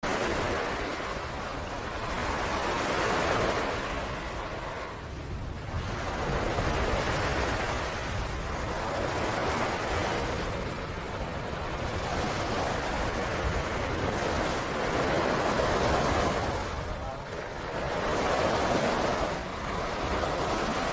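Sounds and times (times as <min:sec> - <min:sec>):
ocean surf breaking: 0:00.0 - 0:20.9
wind rumble on microphone: 0:00.0 - 0:20.9.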